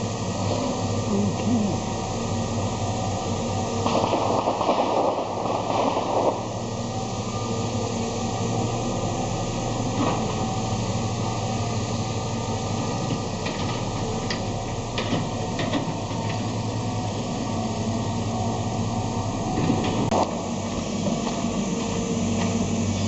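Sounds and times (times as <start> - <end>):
moving vehicle rumble and hiss: 0.0 - 23.0.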